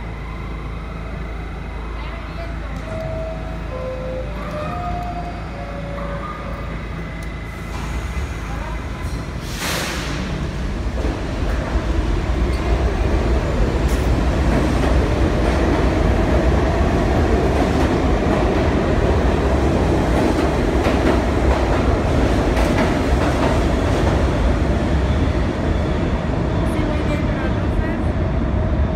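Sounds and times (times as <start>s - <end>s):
subway train rumbling: 0.0s - 28.9s.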